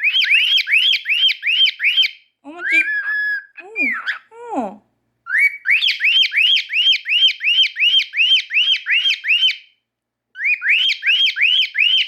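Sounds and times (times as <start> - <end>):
cockatiel whistling: 0.0 - 4.2, 5.3 - 9.7, 10.4 - 12.0.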